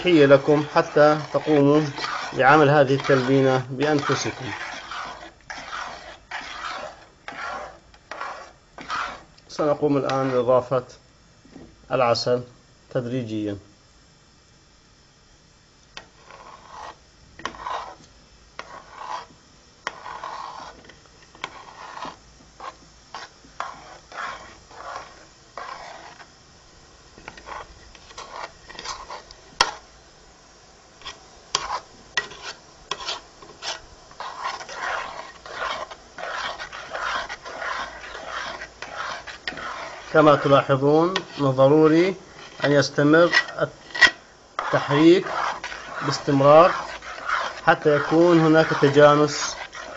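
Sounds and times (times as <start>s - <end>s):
spoon scraping a metal pot: 0.0s - 9.3s, 16.0s - 18.0s, 18.6s - 26.3s, 27.2s - 29.8s, 31.0s - 49.9s.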